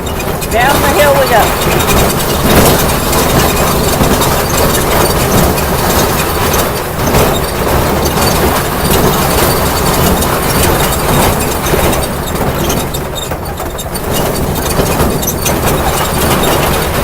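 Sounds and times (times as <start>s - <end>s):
ride-on train rumbling on track: 0.0s - 17.0s
track clicks and rattles: 0.0s - 17.0s.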